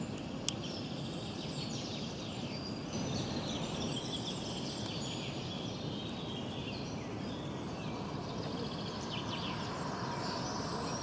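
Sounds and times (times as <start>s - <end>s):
small birds chirping: 0.0s - 11.0s
steady low background noise: 0.0s - 11.0s.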